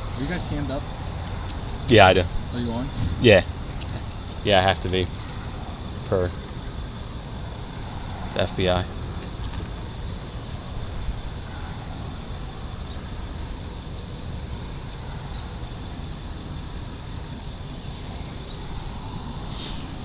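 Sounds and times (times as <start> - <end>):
faint high hum: 0.0 - 20.0.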